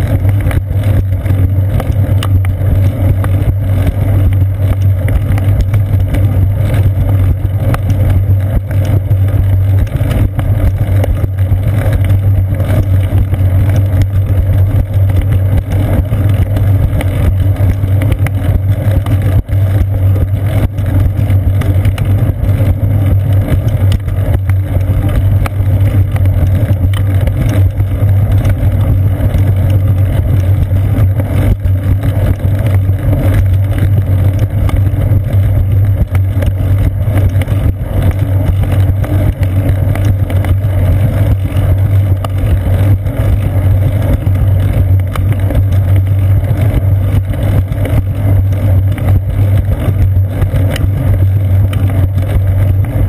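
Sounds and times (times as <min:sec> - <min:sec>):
bicycle rolling rumble: 0:00.0 - 0:53.0.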